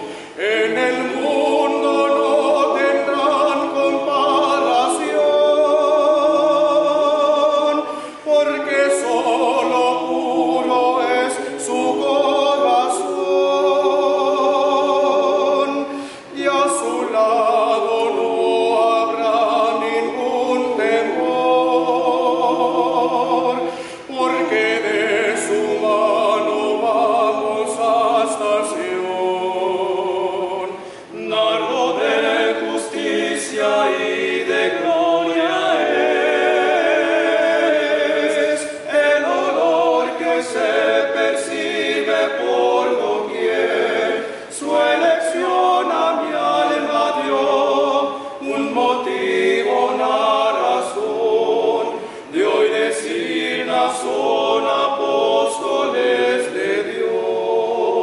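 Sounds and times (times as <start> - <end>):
men singing hymn in harmony: 0.0 - 58.0.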